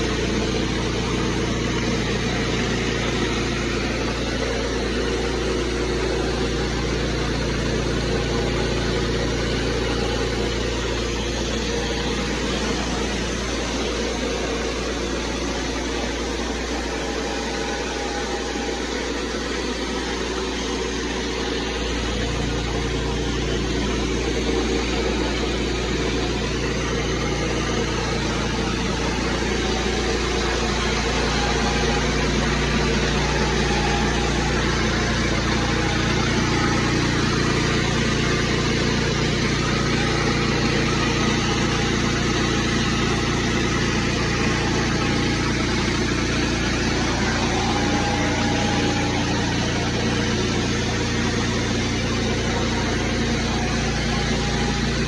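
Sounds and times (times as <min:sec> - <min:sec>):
pressure washer engine running: 0:00.0 - 0:55.0.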